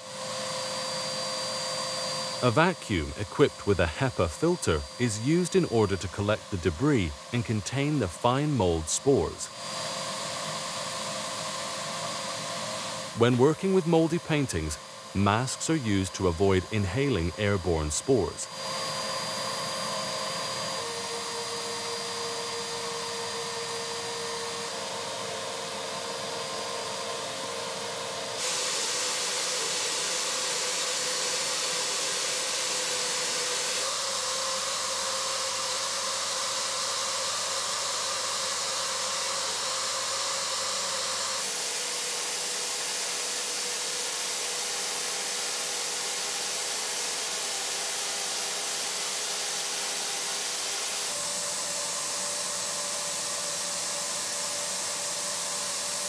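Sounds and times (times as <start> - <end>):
vacuum rushing hiss: 0.0 - 56.0.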